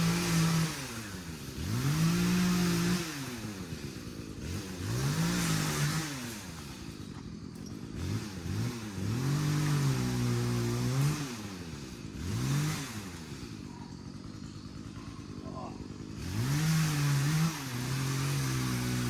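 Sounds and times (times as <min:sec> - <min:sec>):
chainsaw idling: 0:00.0 - 0:19.0
chainsaw revving: 0:00.0 - 0:19.0.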